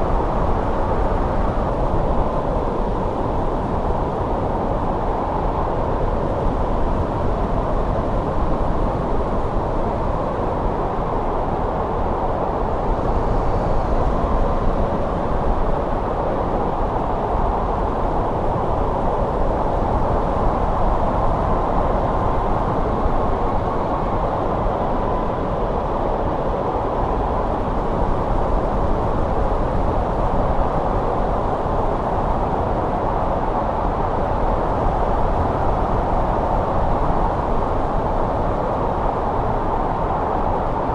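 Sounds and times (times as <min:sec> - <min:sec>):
steady wind rushing: 0:00.0 - 0:40.9.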